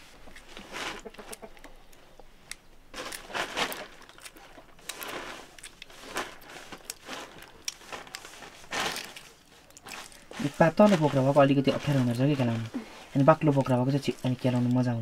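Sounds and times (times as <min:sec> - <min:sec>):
egg shells cracking: 0:02.5 - 0:14.9.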